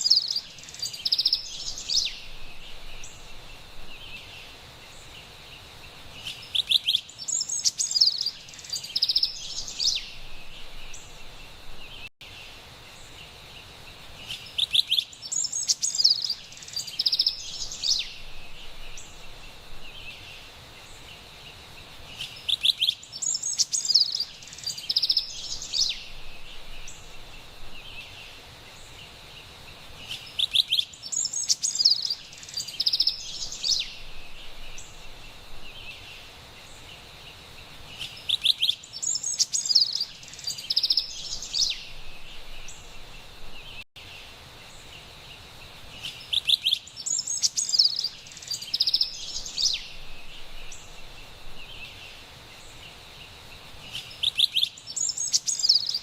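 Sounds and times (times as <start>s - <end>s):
wren singing: 0.0s - 5.3s, 6.2s - 12.1s, 14.2s - 21.2s, 22.1s - 29.0s, 30.0s - 43.8s, 45.9s - 56.0s
faint forest background: 0.0s - 56.0s.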